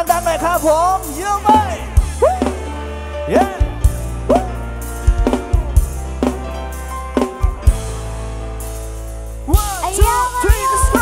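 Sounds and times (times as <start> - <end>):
held bass notes: 0.0 - 11.0.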